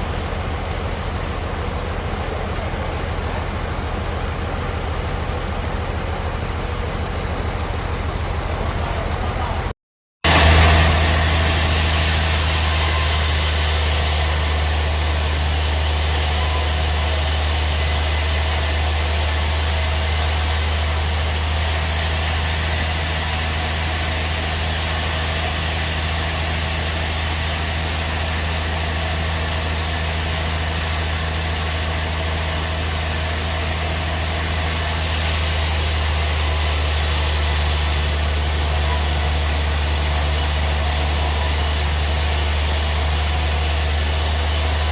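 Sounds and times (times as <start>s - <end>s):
band sawmill running: 0.0s - 44.9s.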